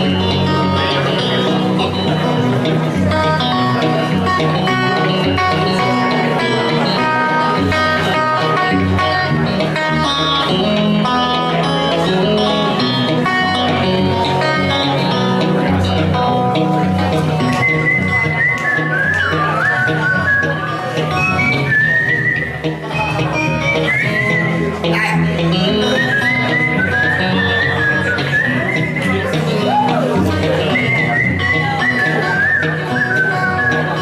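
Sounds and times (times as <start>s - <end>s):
solo guitar playing blues: 0.0s - 34.0s.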